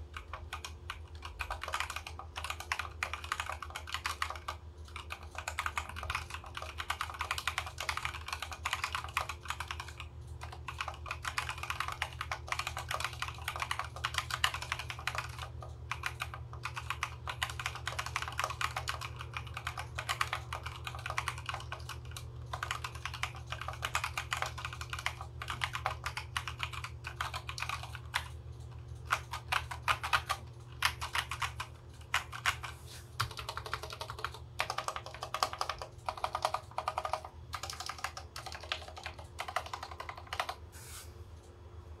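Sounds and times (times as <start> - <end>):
mechanical keyboard typing: 0.0 - 40.6
steady low hum: 0.0 - 42.0.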